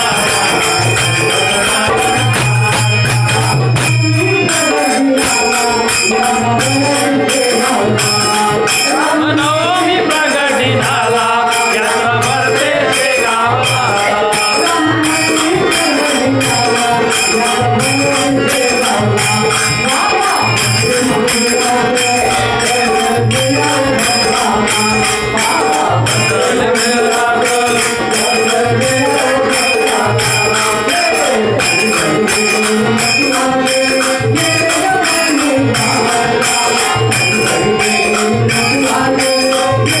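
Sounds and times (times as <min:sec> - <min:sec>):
drum beats: 0:00.0 - 0:40.0
jingling percussion: 0:00.0 - 0:40.0
man singing devotional melody: 0:00.0 - 0:40.0.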